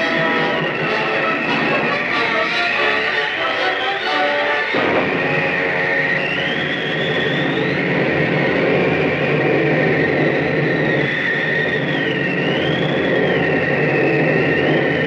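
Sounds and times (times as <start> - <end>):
high wavering whistle: 0.0 - 15.0
rushing wind roar: 0.0 - 15.0.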